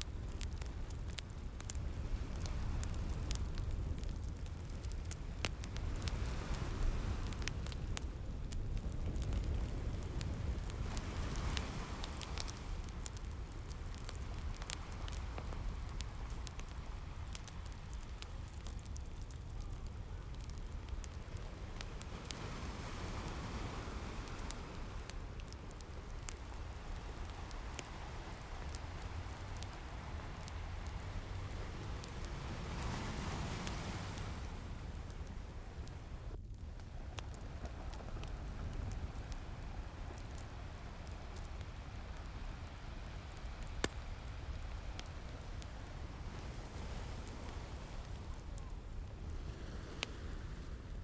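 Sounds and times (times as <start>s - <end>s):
ocean waves: 0.0s - 8.1s, 8.8s - 36.4s, 37.0s - 51.0s
wood fire crackling: 0.0s - 51.0s.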